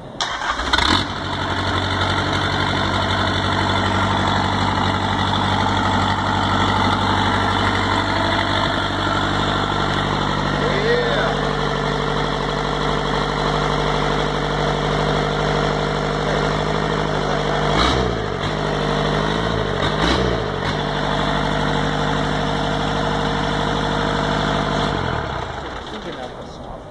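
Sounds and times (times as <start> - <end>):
diesel engine idling and revving: 0.0 - 26.9
engine winding down: 0.2 - 26.8.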